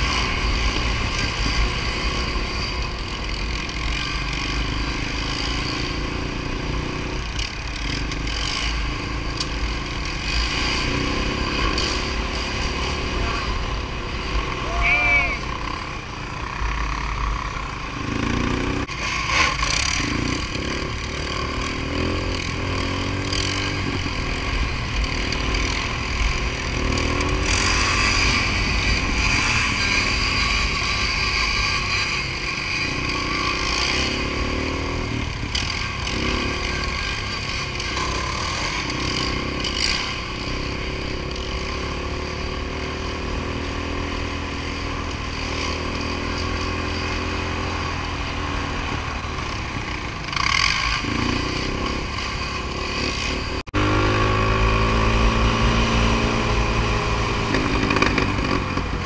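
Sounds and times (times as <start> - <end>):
quad engines revving: 0.0 - 59.0.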